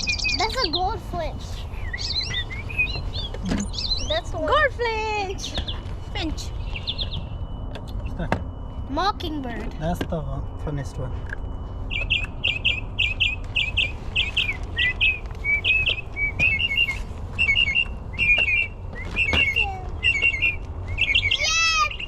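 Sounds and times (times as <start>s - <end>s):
mockingbird song: 0.0s - 8.6s, 11.8s - 22.0s.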